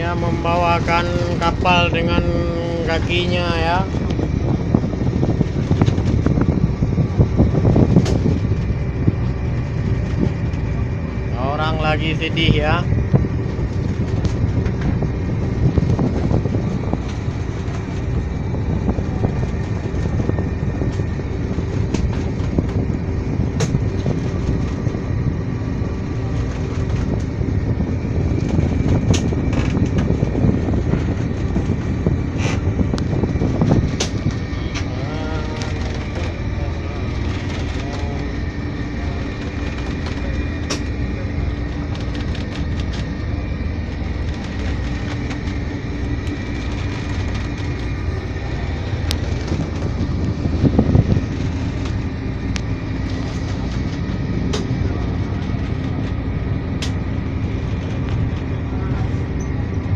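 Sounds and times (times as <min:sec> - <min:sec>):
boat engine low drone: 0:00.0 - 0:59.9.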